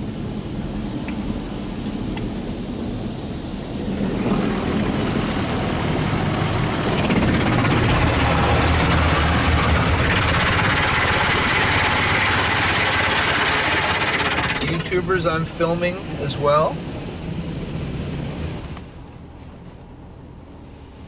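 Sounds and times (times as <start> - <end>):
low machine rumble: 0.0 - 21.0.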